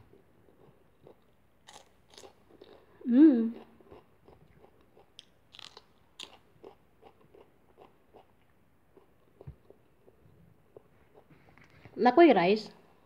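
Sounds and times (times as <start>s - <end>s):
person chewing and biting food: 0.0s - 3.0s, 3.6s - 11.3s.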